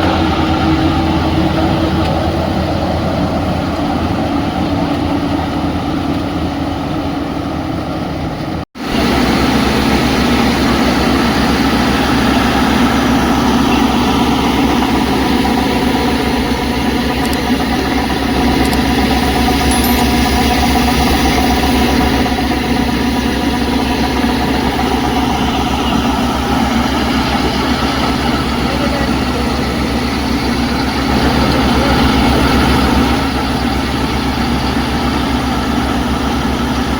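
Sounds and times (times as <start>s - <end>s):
combine harvester engine drone: 0.0s - 36.9s.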